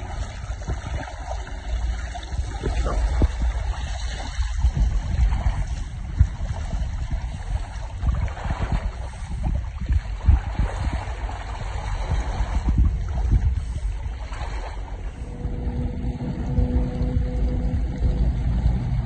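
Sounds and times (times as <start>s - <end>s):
water rushing along hull: 0.0s - 19.0s
wind rumbling on microphone: 0.0s - 19.0s.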